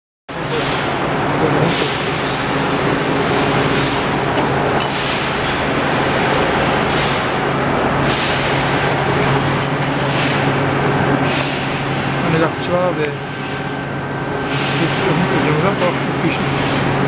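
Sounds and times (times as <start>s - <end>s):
hydraulic press humming: 0.3s - 17.0s.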